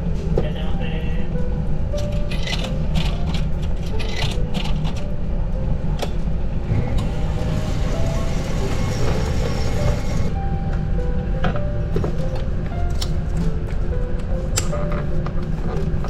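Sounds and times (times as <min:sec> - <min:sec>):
faint background music: 0:00.0 - 0:16.0
ship engines rumbling: 0:00.0 - 0:16.0.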